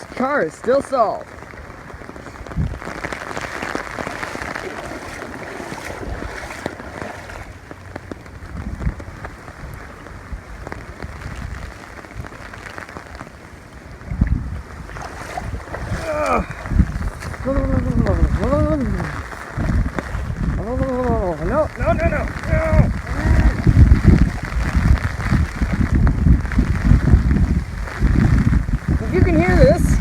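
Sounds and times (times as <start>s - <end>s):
heavy rain on umbrella: 0.0s - 30.0s
wind buffeting microphone: 1.4s - 12.7s, 13.7s - 30.0s.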